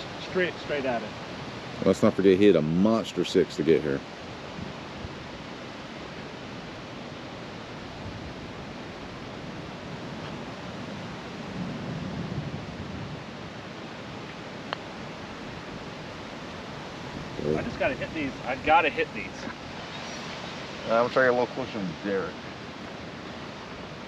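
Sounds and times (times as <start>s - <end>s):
rushing wind: 0.0s - 24.0s.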